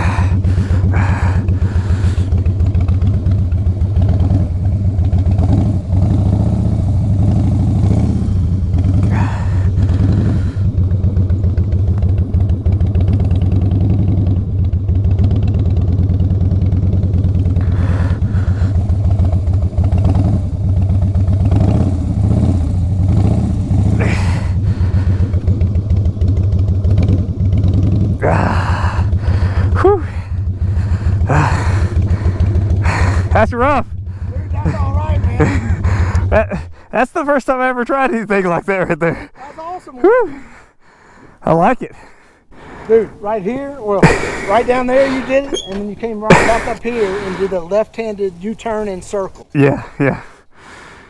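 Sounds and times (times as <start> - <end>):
motorcycle engine pulsing: 0.0 - 41.6, 42.4 - 51.0.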